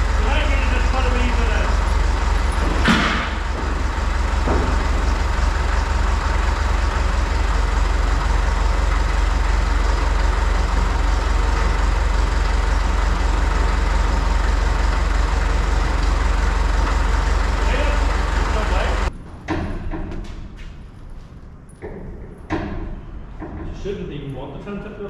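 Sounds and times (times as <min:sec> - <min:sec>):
engine running with pulsing rumble: 0:00.0 - 0:20.9.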